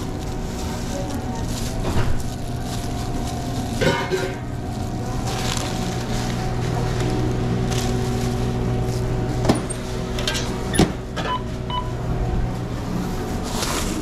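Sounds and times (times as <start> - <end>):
kitchen machinery hum: 0.0 - 14.0.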